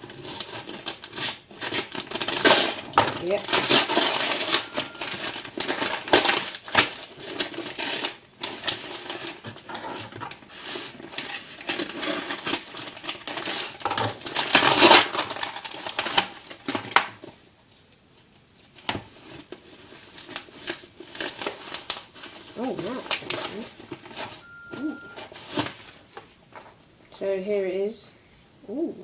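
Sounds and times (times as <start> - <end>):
packaging rustling and crinkling: 0.0 - 17.8, 18.5 - 26.8.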